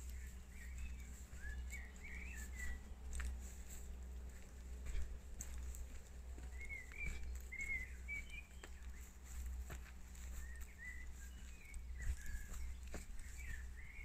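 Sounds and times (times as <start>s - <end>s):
songbird chirping: 0.0s - 14.0s
steady low rumble: 0.0s - 14.0s.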